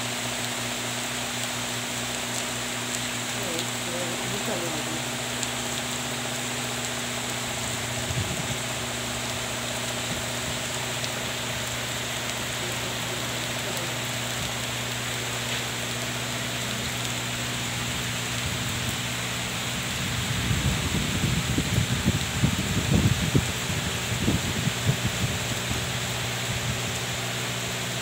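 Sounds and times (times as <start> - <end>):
rain on trees and grass: 0.0 - 28.0.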